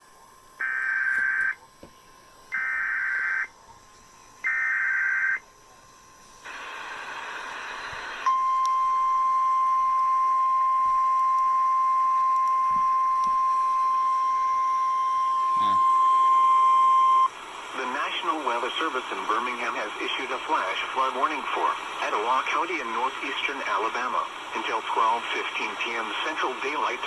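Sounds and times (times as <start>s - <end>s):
radio static hiss: 0.0s - 10.0s, 11.9s - 27.0s
steady warning alarm tone: 0.6s - 1.6s, 2.5s - 6.1s, 7.7s - 27.0s.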